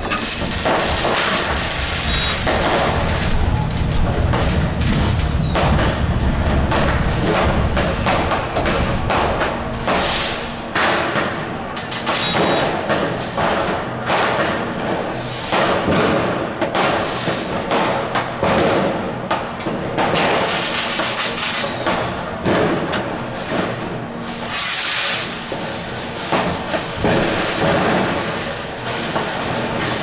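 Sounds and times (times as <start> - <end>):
firecracker and rocket bangs: 0.0 - 25.6, 26.2 - 30.0.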